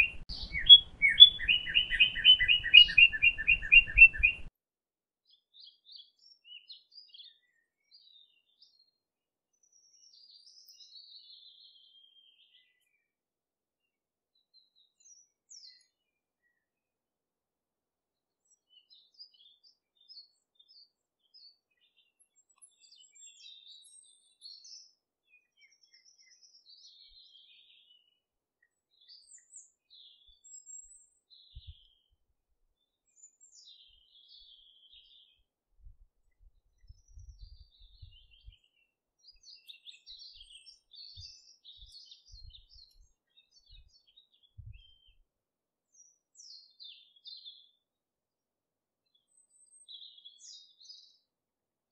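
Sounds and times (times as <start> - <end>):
faint birdsong chirps: 0.0 - 4.5, 5.2 - 51.9.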